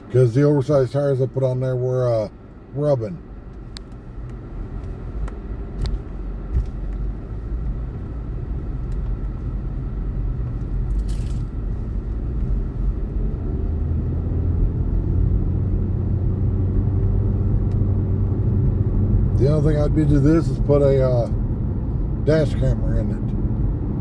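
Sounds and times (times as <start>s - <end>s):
car cabin engine and road rumble: 0.0s - 24.0s.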